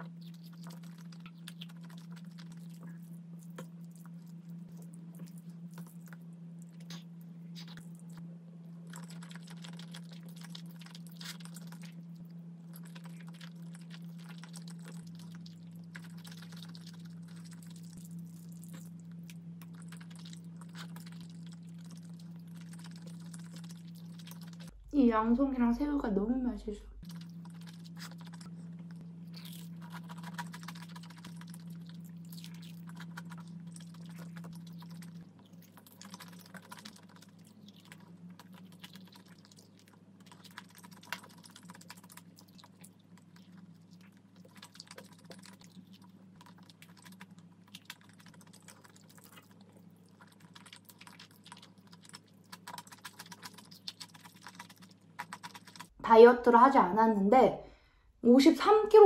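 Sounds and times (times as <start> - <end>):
person chewing food: 0.0 - 24.8, 27.0 - 56.0
low steady hum: 0.0 - 59.0.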